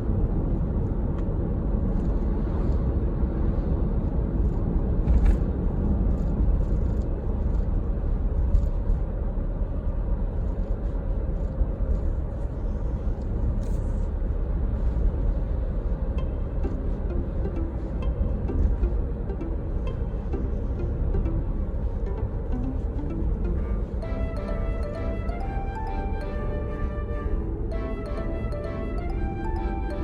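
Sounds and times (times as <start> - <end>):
steady low rumble: 0.0 - 30.0
faint steady hum: 3.5 - 30.0.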